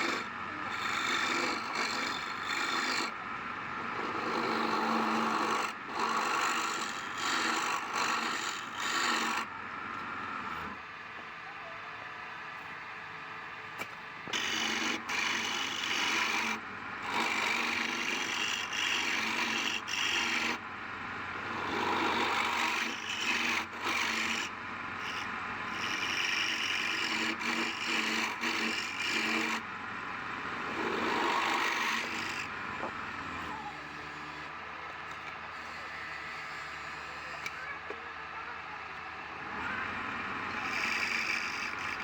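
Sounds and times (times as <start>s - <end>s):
wood lathe rasping and scraping: 0.0s - 10.8s, 14.2s - 42.0s.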